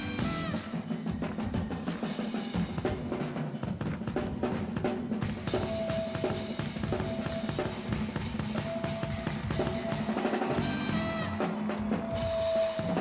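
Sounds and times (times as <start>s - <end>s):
drum kit beat: 0.0s - 13.0s
pop-rock band playing: 0.0s - 13.0s.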